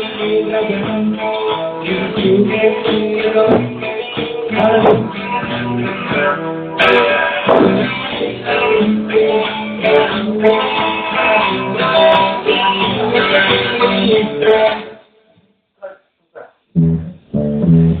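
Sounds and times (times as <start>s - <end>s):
guitar plucked and strummed: 0.0s - 15.0s, 15.8s - 18.0s.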